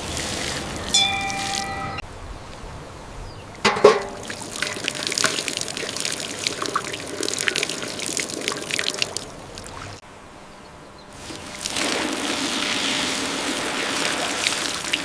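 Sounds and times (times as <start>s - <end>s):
water trickling and splashing: 0.0s - 1.9s, 3.6s - 10.0s, 11.2s - 15.0s.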